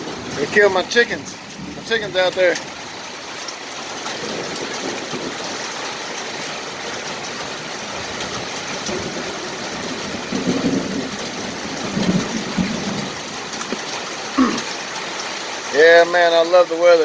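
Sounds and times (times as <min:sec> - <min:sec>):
hailstones tapping: 0:00.0 - 0:17.0
heavy rain and hail falling: 0:00.0 - 0:17.0.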